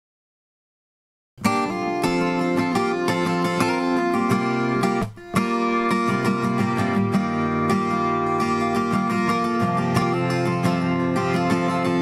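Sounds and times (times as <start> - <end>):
strummed acoustic guitar music: 1.4 - 12.0.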